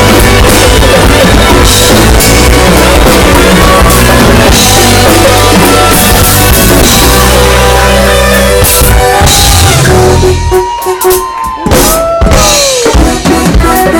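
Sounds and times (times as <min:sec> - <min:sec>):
high notes sliding in pitch: 0:00.0 - 0:13.0
bass line: 0:00.0 - 0:13.9
drum kit playing: 0:00.0 - 0:13.9
guitar: 0:00.0 - 0:13.9.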